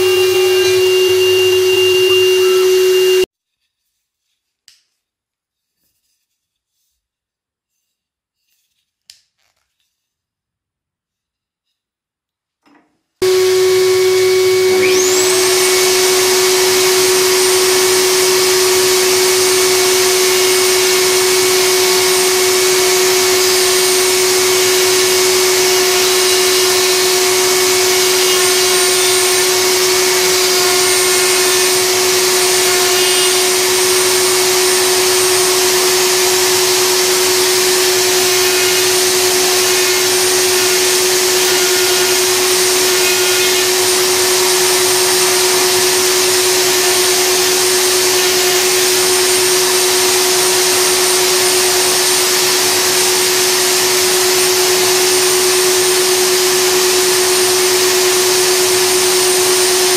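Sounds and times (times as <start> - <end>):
router whining while cutting wood: 0.0 - 3.3, 13.2 - 59.9.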